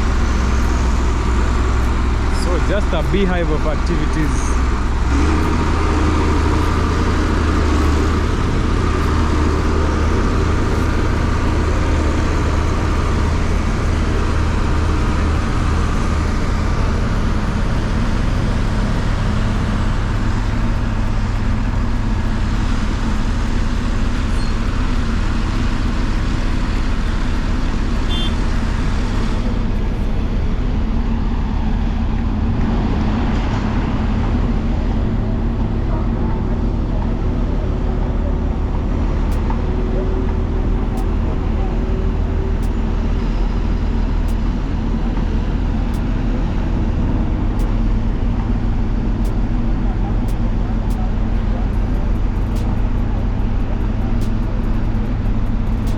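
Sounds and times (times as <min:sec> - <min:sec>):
heavy machinery engines humming: 0:00.0 - 0:55.9.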